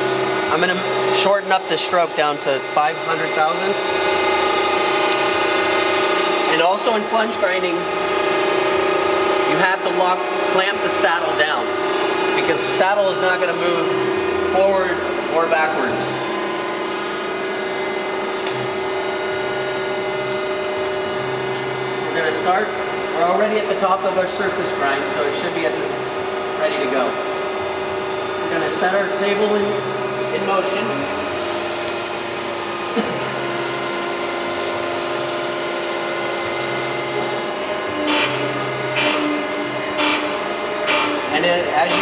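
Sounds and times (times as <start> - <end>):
grinder humming with held tone: 0.0 - 42.0.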